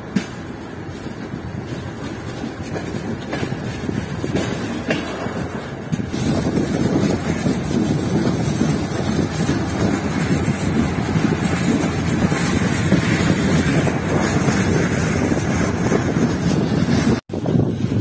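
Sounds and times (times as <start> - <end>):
train running rumble: 0.0 - 18.0
wind buffeting microphone: 0.0 - 18.0.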